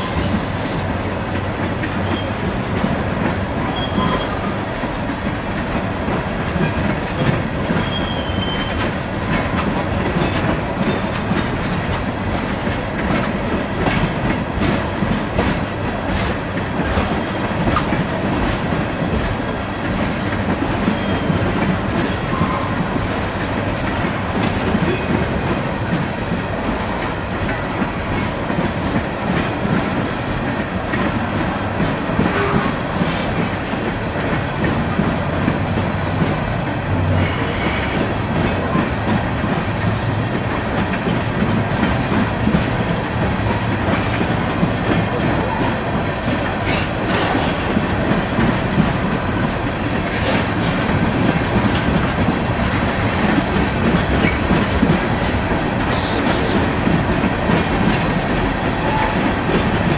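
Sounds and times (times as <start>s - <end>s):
train wheels rumbling on rails: 0.0s - 59.9s
wheels clicking over rail joints: 0.0s - 59.9s.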